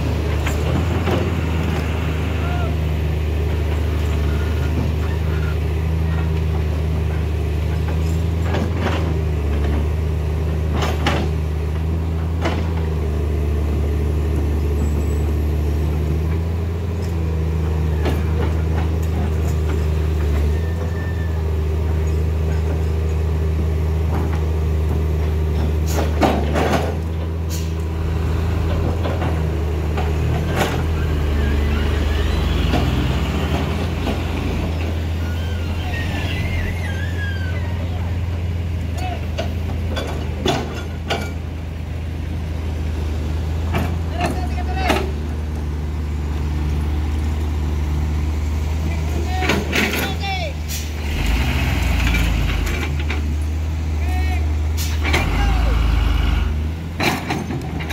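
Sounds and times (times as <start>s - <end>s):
diesel truck engine running: 0.0s - 57.9s.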